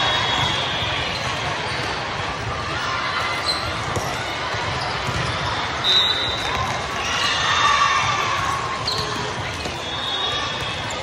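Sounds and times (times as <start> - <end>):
many voices in echoing hall: 0.0 - 11.0.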